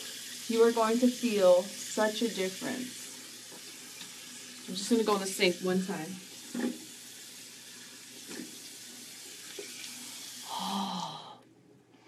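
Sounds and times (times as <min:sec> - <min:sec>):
tap water running and splashing: 0:00.0 - 0:11.0.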